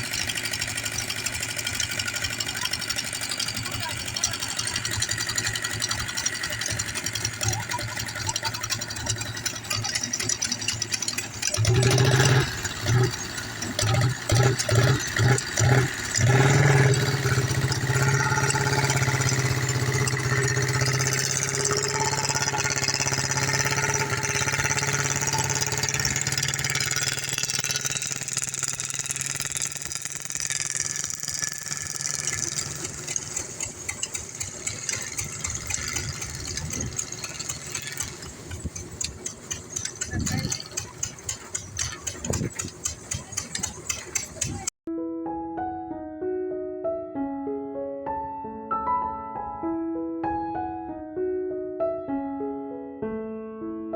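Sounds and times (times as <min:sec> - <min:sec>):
tractor diesel engine running: 0:00.0 - 0:44.8.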